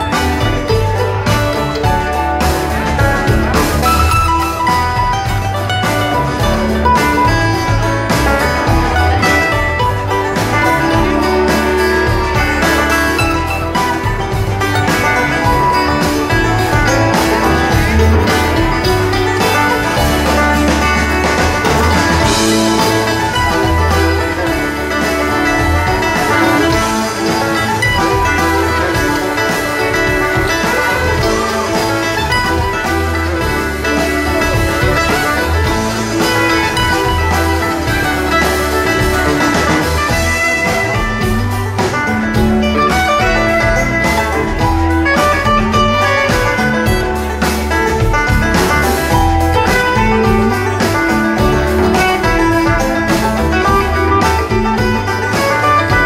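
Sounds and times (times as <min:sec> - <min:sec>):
plucked strings: 0:00.0 - 0:56.0
steady bass: 0:00.0 - 0:56.0
string band playing: 0:00.0 - 0:56.0.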